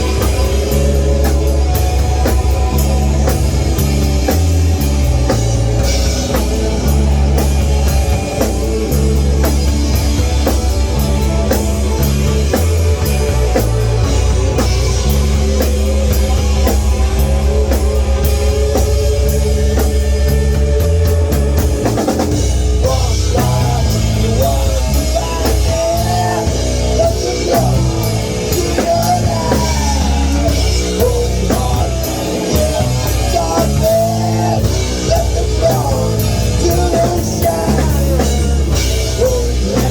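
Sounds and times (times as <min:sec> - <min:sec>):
bass guitar: 0:00.0 - 0:39.9
drum kit: 0:00.0 - 0:39.9
electric guitar lead line: 0:00.0 - 0:39.9.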